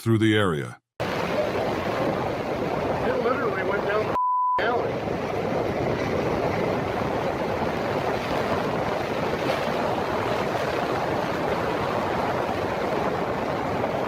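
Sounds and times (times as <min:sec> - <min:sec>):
strong winds rushing past microphone: 0:01.0 - 0:14.0.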